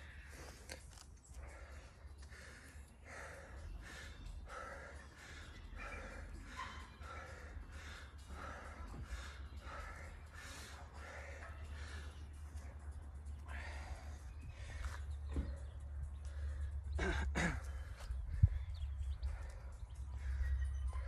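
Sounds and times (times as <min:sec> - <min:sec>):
man breathing hard: 0:00.0 - 0:21.0.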